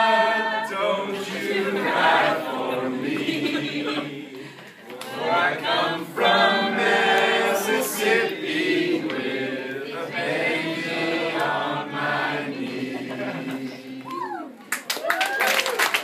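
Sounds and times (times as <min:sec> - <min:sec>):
group of voices singing: 0:00.0 - 0:14.4.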